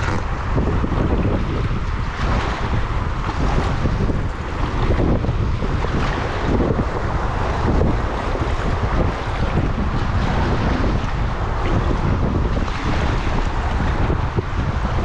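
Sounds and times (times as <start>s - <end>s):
rushing river water: 0.0s - 15.0s
wind buffeting microphone: 0.0s - 15.0s.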